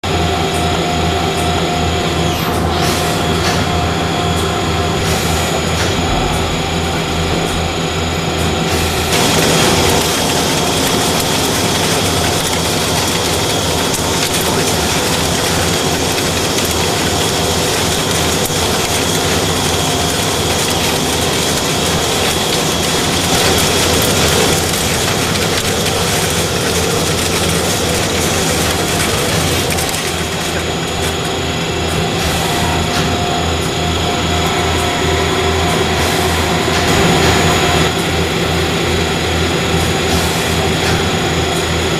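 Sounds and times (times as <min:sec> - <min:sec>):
machine grinding metal: 0:00.1 - 0:41.9.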